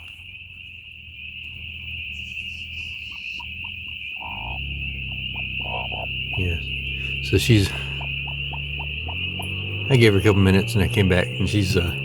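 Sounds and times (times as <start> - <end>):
insects chirping: 0.0 - 12.0
low rumble: 1.1 - 10.9.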